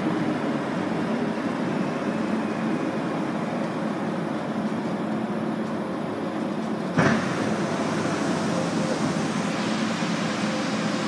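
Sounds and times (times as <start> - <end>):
metro train hum and rumble: 0.0 - 11.0.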